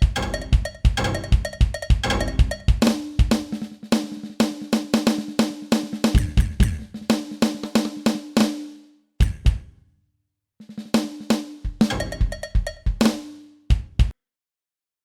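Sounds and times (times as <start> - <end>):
electronic drum kit fills: 0.0 - 9.7, 10.7 - 14.1.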